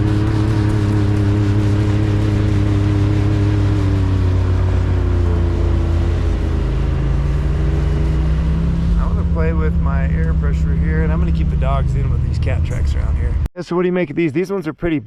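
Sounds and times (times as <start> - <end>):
turbocharged engine running: 0.0 - 13.5.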